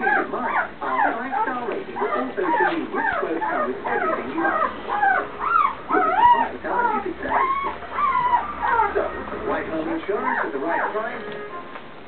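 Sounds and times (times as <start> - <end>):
puppies squeaking and whimpering: 0.0 - 11.5.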